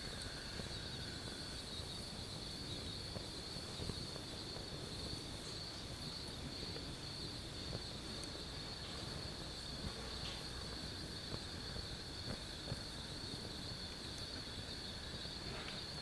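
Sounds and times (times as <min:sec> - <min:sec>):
low even hiss: 0:00.0 - 0:16.0
night insects trilling: 0:00.0 - 0:16.0.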